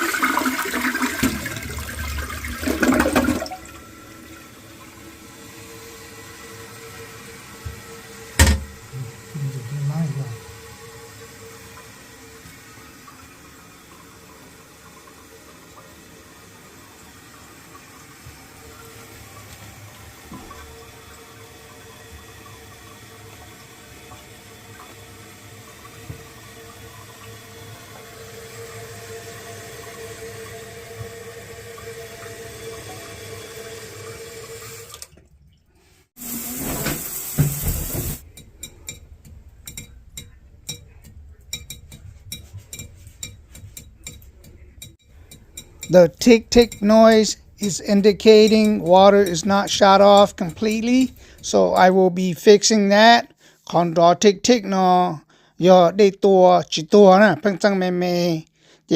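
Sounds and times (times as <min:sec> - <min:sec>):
toilet tank refilling: 0:00.0 - 0:58.0.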